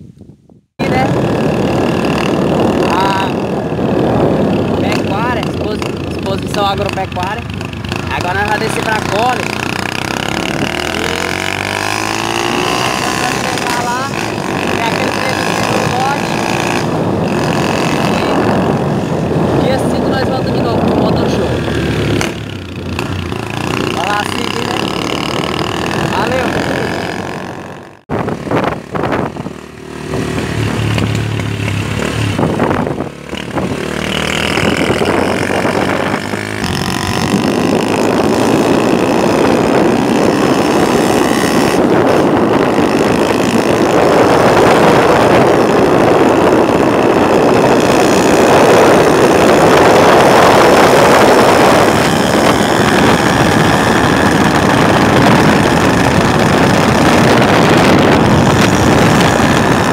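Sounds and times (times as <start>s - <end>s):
wind rush on microphone: 0.0s - 59.9s
motorcycle engine running: 0.8s - 59.9s.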